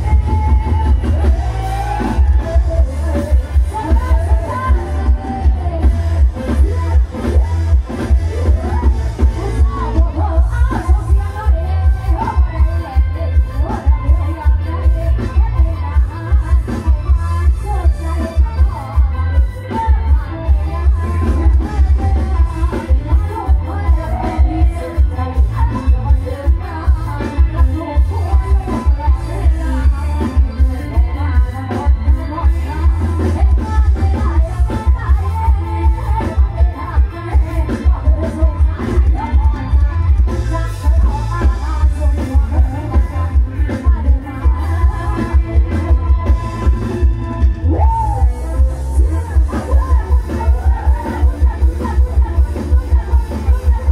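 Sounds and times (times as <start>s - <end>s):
heavy bass beat: 0.0s - 53.9s
person singing over amplified music: 0.0s - 53.9s.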